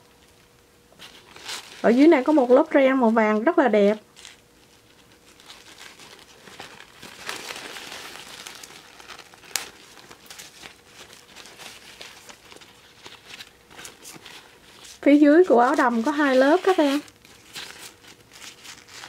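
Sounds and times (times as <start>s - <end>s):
fabric rustling and crinkling: 0.9s - 19.0s.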